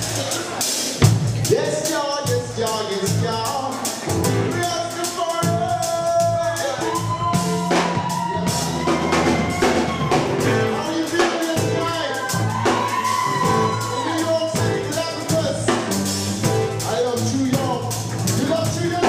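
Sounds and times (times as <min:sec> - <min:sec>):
drum kit beat: 0:00.0 - 0:19.0
live band playing: 0:00.0 - 0:19.0.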